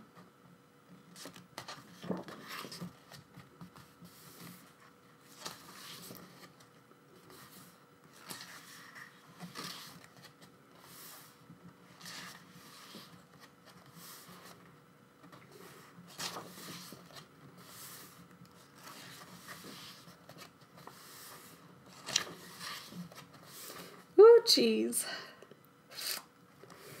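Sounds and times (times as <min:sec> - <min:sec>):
book pages turning: 0:01.1 - 0:24.0, 0:25.9 - 0:27.0.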